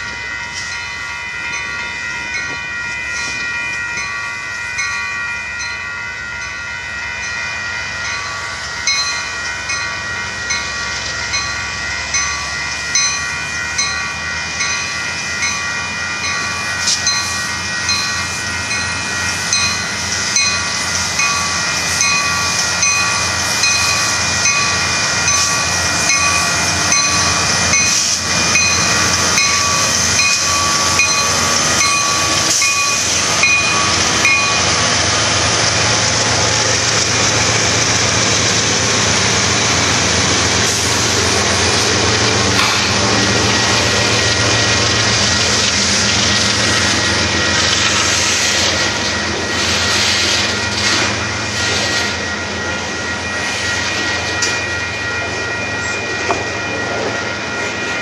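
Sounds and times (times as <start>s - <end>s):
crossing bell ringing rapidly: 0.0s - 58.0s
freight train rumbling and rattling: 0.0s - 58.0s.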